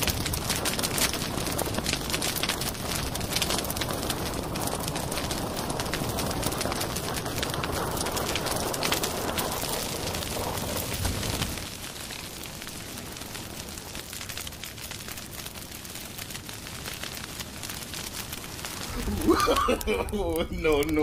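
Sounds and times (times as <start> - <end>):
small fire crackling: 0.0 - 21.0.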